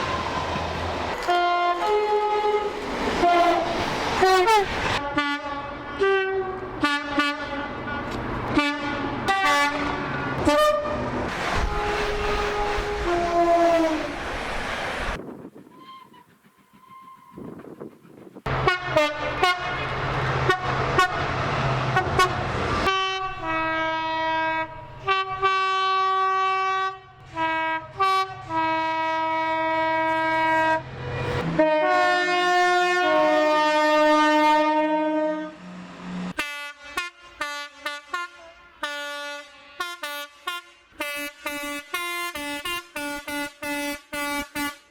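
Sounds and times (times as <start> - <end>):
multi-tone horn blasts: 1.2 - 14.3, 18.5 - 21.3, 21.9 - 44.9
train horn: 1.2 - 14.3, 18.5 - 21.3, 21.9 - 44.9.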